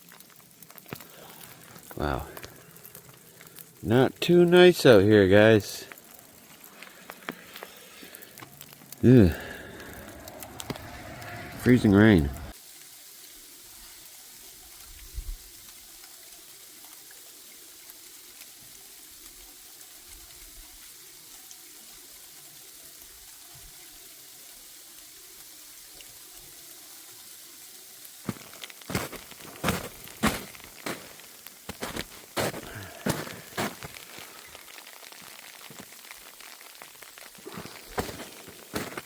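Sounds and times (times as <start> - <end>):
freezing rain hissing: 0.0 - 39.0.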